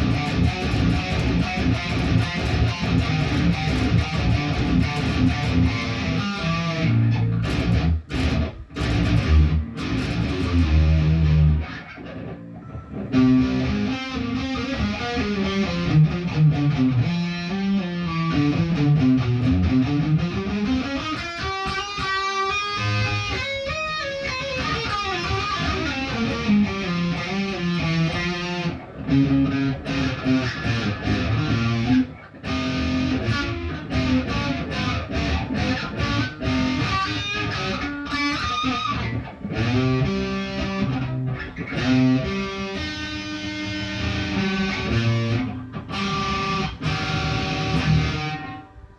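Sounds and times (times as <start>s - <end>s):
guitar chords and single notes: 0.0s - 48.9s.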